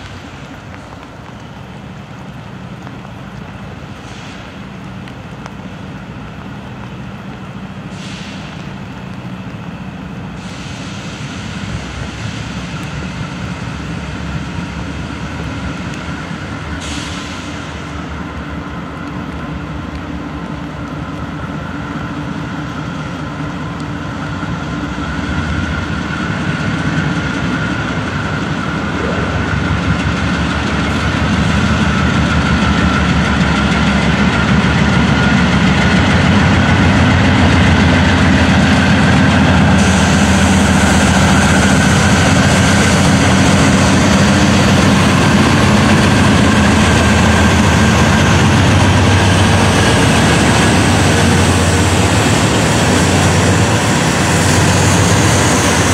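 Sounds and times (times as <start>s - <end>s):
diesel locomotives passing: 0.0s - 55.9s.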